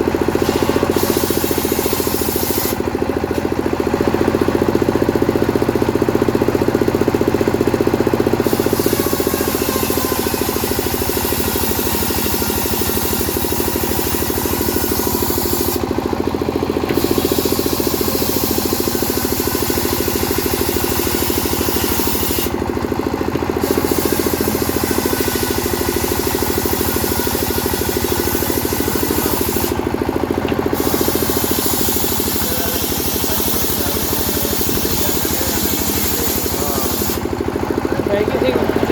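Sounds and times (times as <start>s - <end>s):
chainsaw sawing wood: 0.0s - 38.9s.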